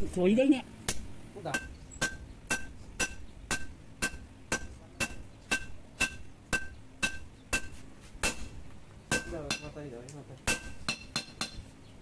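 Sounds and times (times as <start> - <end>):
hammer striking steel on anvil: 0.9 - 9.8, 10.4 - 11.7.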